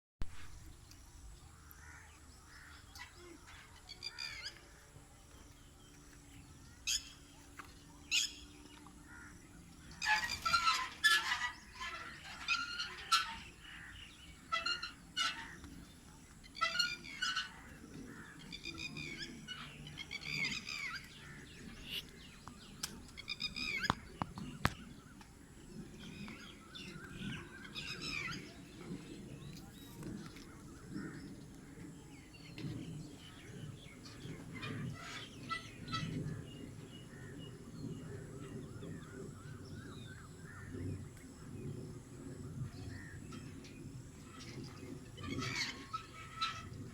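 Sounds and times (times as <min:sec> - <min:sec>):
birds chirping and calling: 0:00.4 - 0:46.9.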